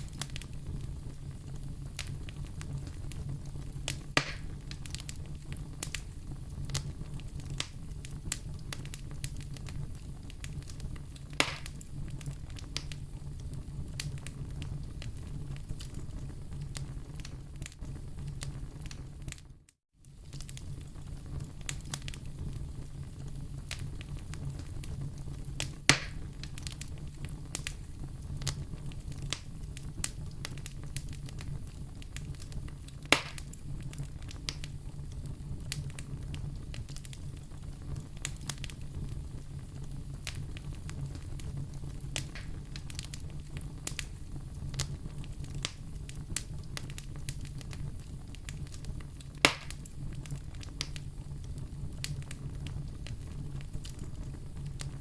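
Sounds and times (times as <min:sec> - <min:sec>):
sharp fire pops: 0:00.0 - 0:19.5, 0:20.1 - 0:55.0
low fire rumble: 0:00.0 - 0:55.0
wood fire crackling: 0:00.0 - 0:55.0.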